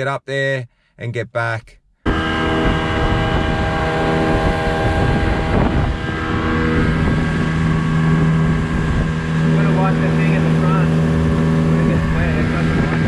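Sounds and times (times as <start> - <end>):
outboard motor running: 2.1 - 13.0
water rushing: 2.1 - 13.0
wind on microphone: 2.1 - 13.0.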